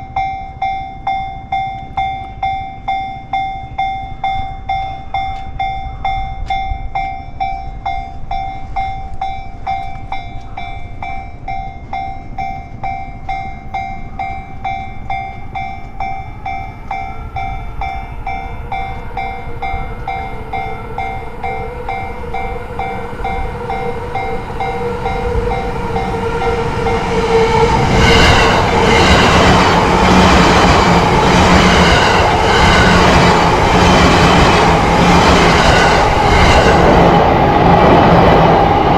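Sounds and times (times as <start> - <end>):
level-crossing warning bell: 0.0 - 37.3
train wheels clattering: 4.3 - 37.1.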